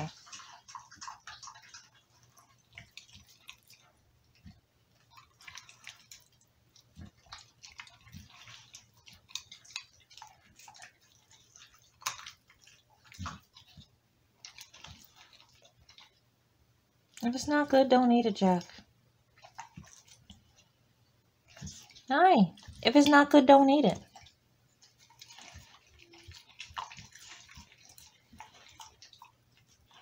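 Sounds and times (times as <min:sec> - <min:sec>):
dog licking and chewing: 0:00.0 - 0:16.3, 0:18.3 - 0:20.8, 0:21.4 - 0:30.0.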